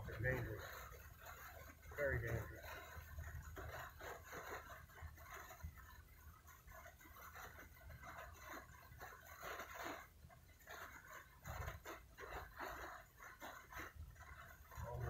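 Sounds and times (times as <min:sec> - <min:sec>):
quick rhythmic panting: 0:00.0 - 0:15.0.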